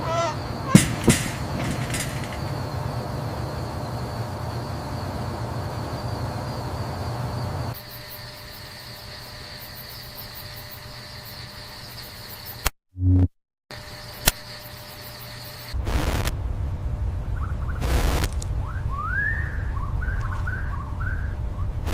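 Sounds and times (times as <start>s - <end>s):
steady hiss and low hum: 0.0s - 10.3s, 13.8s - 21.9s.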